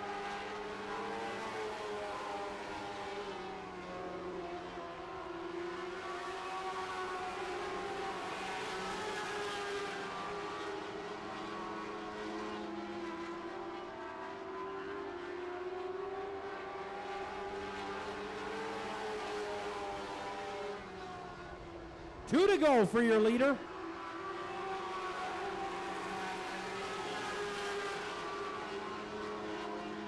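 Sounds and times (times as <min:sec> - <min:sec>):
race car engines at speed: 0:00.1 - 0:22.2, 0:23.6 - 0:30.0.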